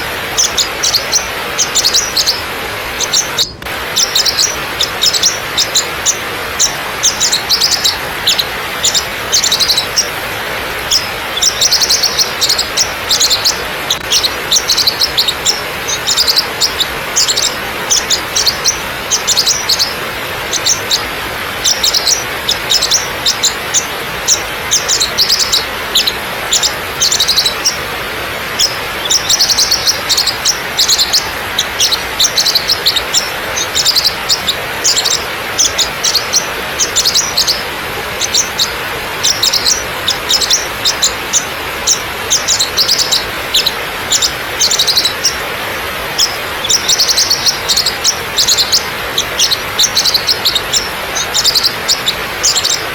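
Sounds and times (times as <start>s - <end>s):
high bird chirps: 0.0s - 52.9s
waterfall rushing over rock: 0.0s - 52.9s.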